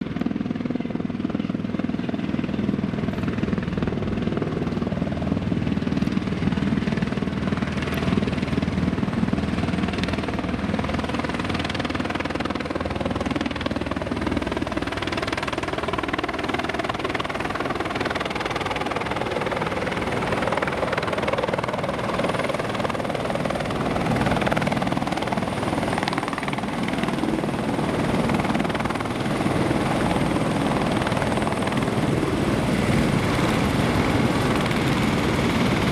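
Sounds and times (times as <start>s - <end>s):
helicopter rotor and engine: 0.0s - 35.9s.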